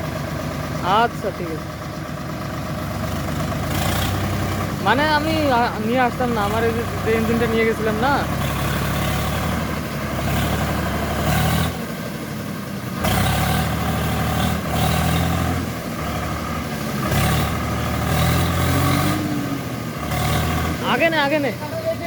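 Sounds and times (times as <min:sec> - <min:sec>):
tractor diesel engine revving: 0:00.0 - 0:22.0.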